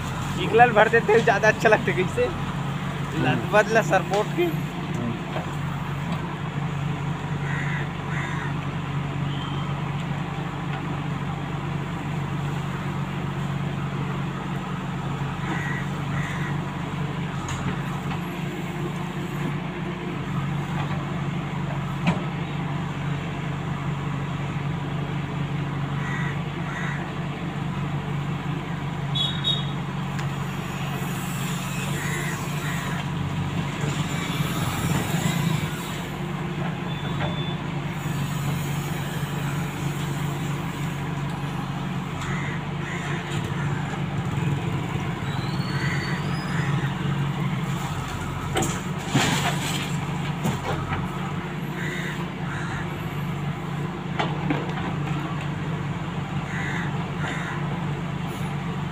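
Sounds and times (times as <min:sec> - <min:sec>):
backhoe digging and dumping earth: 0:00.0 - 0:58.9
diesel engine running under load: 0:00.0 - 0:58.9.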